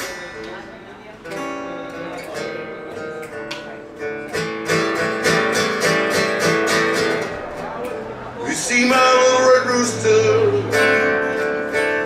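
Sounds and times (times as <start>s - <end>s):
acoustic guitar strumming blues chords: 0.0s - 12.0s.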